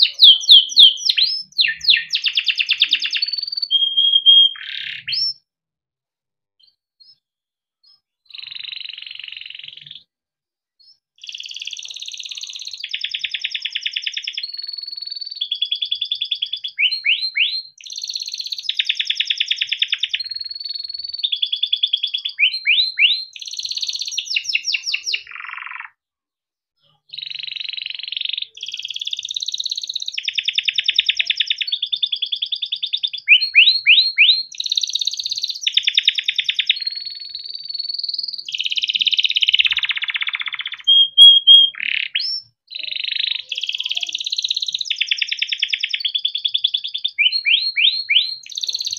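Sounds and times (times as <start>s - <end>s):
canary singing trills: 0.0s - 5.4s, 7.8s - 10.1s, 10.8s - 26.0s, 26.8s - 48.9s.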